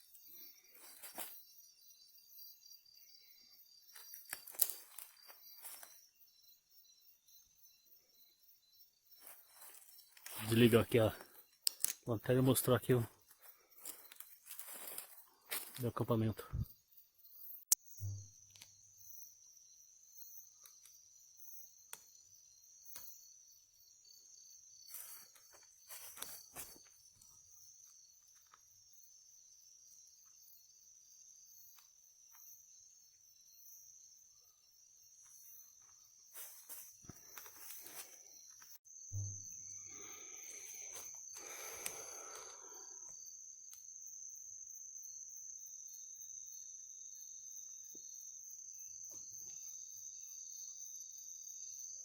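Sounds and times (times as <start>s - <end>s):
night insects chirring drone: 0.0s - 52.0s.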